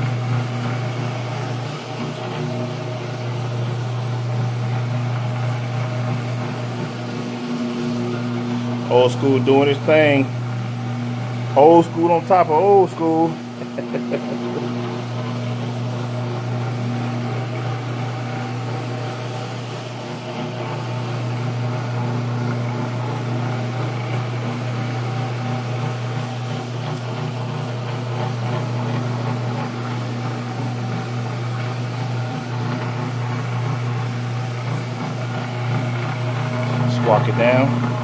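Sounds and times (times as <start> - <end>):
floor machine motor humming: 0.0 - 38.0.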